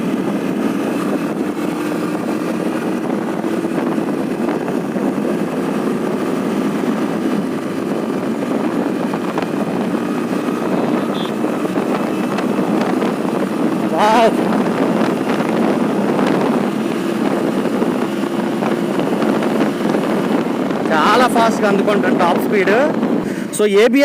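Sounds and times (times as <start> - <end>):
motorcycle engine running: 0.0 - 23.3
rush of wind noise: 0.0 - 24.0.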